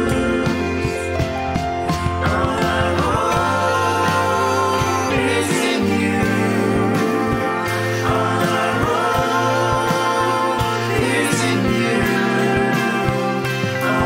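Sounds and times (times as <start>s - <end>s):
worship song singing with band: 0.0s - 14.0s.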